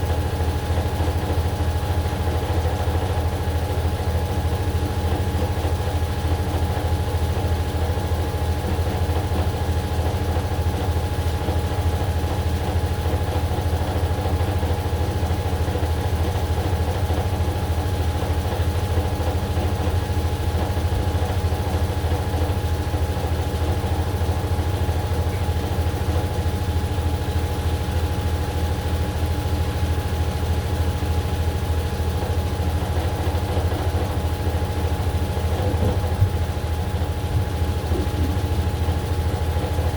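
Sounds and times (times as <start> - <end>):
washing machine spinning drone: 0.0 - 39.9.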